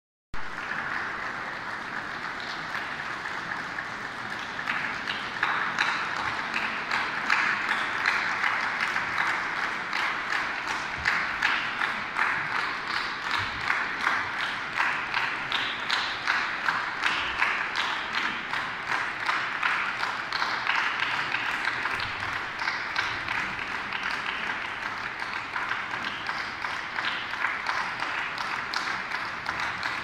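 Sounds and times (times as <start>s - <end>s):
audience applause: 0.4s - 30.0s.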